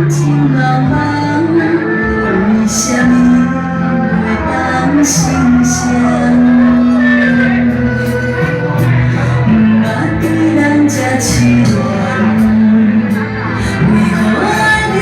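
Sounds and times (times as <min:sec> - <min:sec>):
band accompaniment: 0:00.0 - 0:15.0
person singing long sliding notes: 0:00.0 - 0:15.0.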